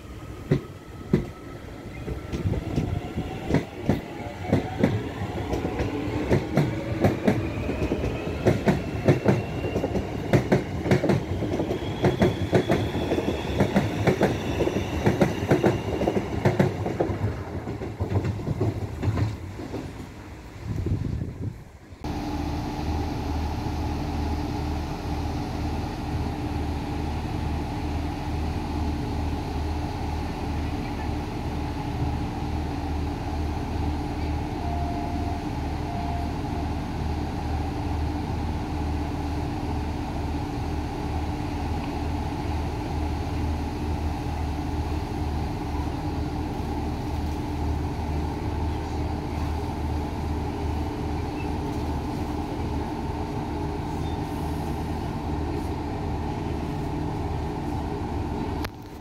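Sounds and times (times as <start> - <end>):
electric train whine: 0.0 - 59.0.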